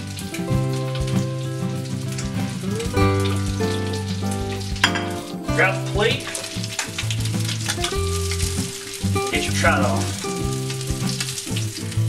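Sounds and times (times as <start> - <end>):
background music: 0.0 - 12.0
fish sizzling in a frying pan: 0.0 - 12.0.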